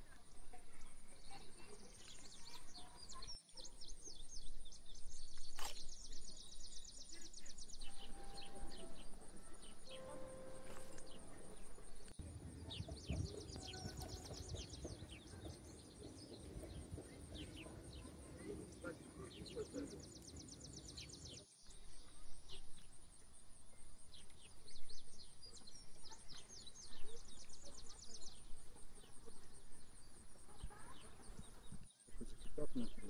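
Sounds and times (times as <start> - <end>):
outdoor background noise: 0.0 - 33.0
small birds chirping: 0.0 - 33.0.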